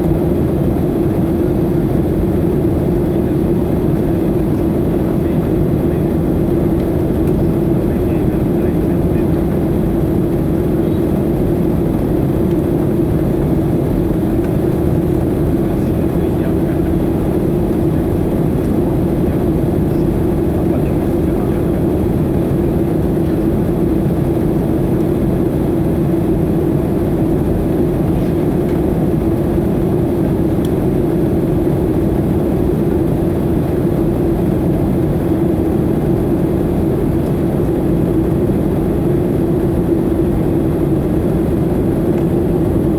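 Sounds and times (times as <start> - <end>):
airliner engine and airflow noise: 0.0 - 42.9.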